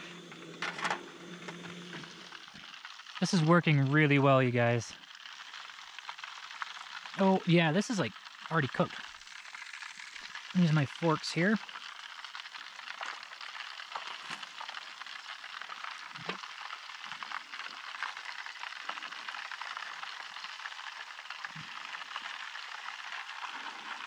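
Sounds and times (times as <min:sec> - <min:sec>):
fish frying in hot oil: 0:00.0 - 0:24.0.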